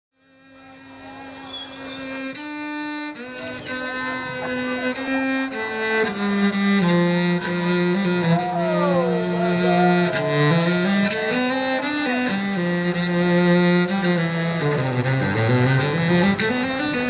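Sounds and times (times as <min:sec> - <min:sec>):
bowed cello long notes: 0:00.2 - 0:17.0.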